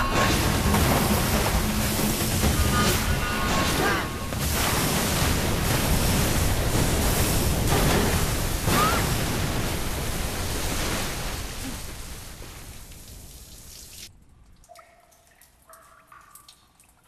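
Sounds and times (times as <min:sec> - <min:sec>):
water spraying and gushing: 0:00.0 - 0:14.1.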